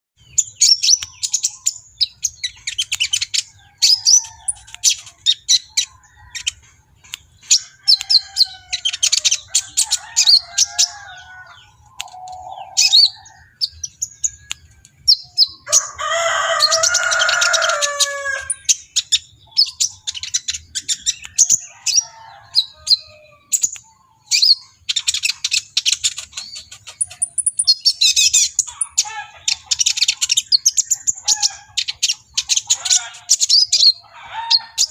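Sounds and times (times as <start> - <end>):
bird chirping and twittering: 0.2 - 34.9.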